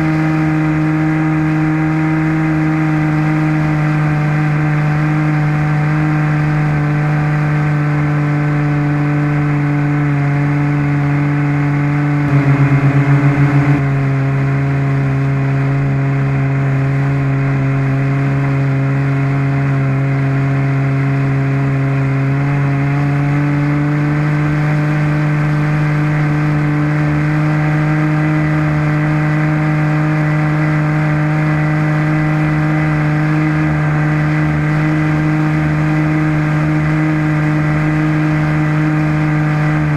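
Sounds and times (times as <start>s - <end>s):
model airplane engine at high revs: 0.0s - 39.9s.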